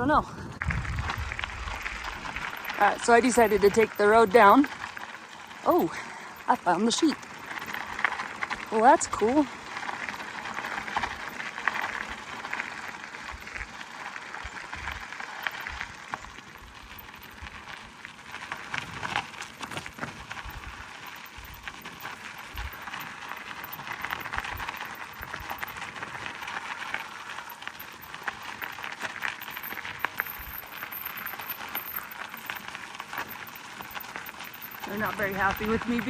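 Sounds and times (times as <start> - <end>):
bike tyres crunching on gravel: 0.2 - 36.0.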